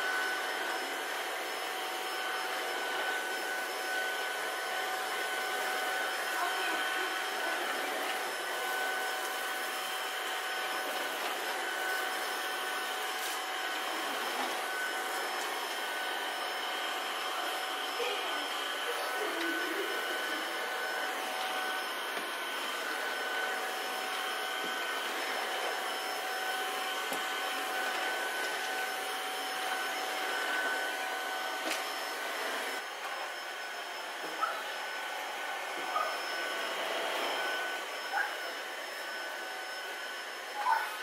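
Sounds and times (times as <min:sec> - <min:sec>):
stick vacuum cleaner running: 0:00.0 - 0:41.0.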